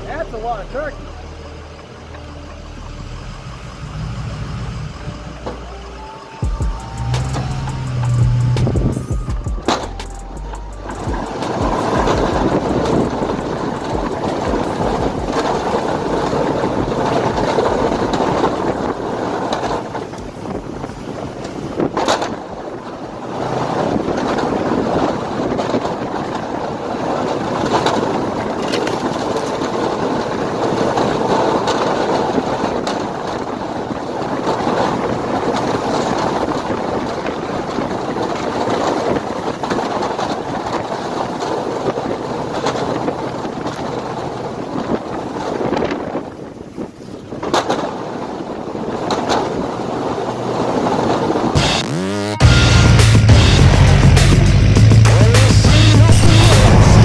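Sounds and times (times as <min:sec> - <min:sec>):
wind buffeting microphone: 0:00.0 - 0:51.8, 0:52.5 - 0:57.0
truck engine and road noise: 0:00.0 - 0:57.0.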